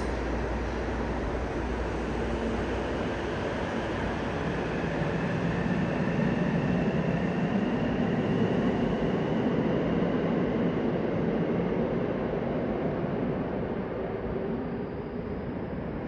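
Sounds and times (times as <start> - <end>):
subway train running: 0.0 - 16.0.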